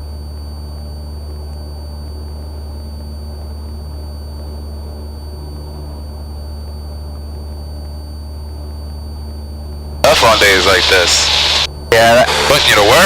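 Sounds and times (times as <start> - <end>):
airplane engine drone in cabin: 0.0 - 13.0
high steady whine: 0.0 - 13.0.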